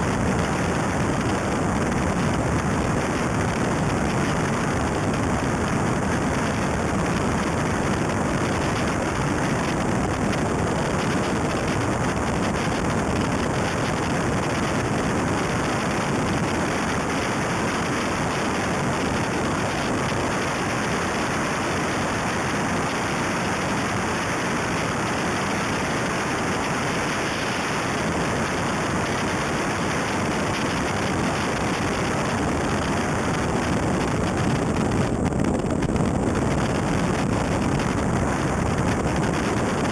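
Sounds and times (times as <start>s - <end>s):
tyre and road noise: 0.0s - 39.9s
wind buffeting microphone: 0.0s - 39.9s.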